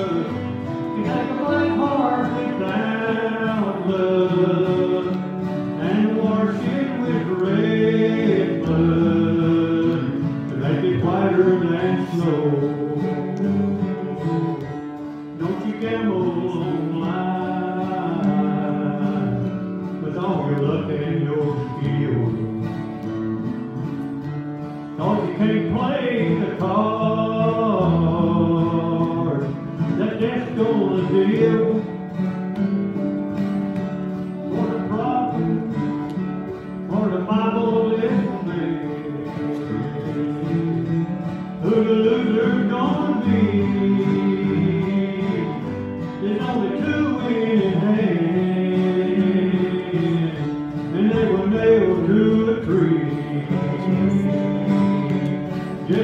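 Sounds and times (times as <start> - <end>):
man singing: 0.0 - 23.1, 24.8 - 32.5, 34.1 - 56.0
strummed acoustic guitar: 0.0 - 56.0.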